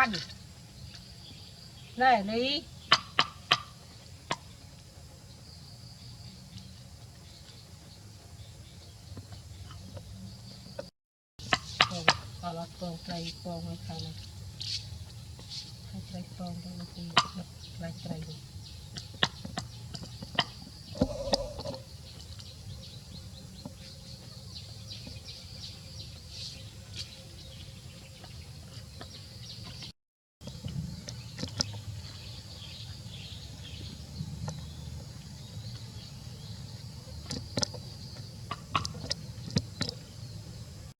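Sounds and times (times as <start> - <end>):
faint birds chirping: 0.0 - 41.0
low background hum: 0.0 - 41.0.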